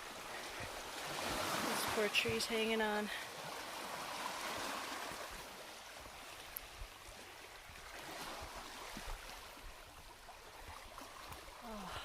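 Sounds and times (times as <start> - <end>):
waves washing on shore: 0.0 - 12.0.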